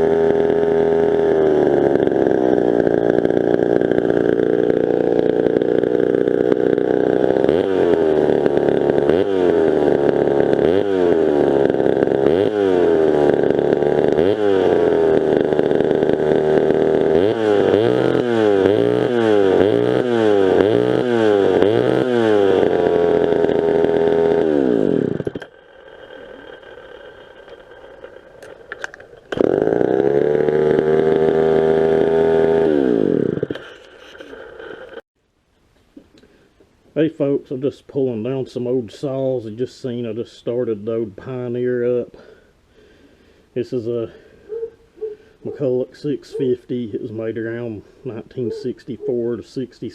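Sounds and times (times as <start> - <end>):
chainsaw revving: 0.0 - 35.0, 37.5 - 49.9.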